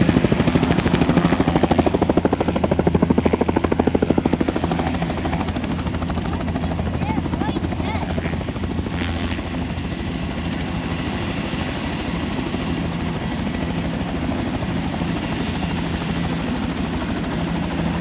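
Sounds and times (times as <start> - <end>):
helicopter high whine: 0.0 - 18.0
helicopter rotor chopping: 0.0 - 18.0.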